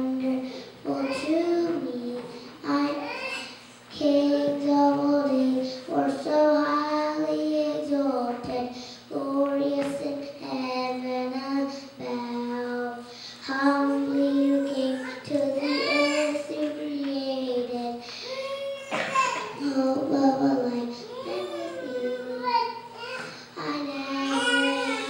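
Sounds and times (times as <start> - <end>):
boy singing into a microphone: 0.0 - 25.0.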